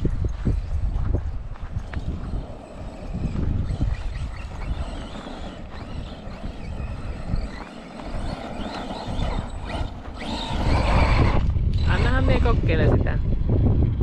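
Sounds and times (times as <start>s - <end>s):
electric motor whining: 0.0s - 14.0s
low rumble: 0.0s - 14.0s.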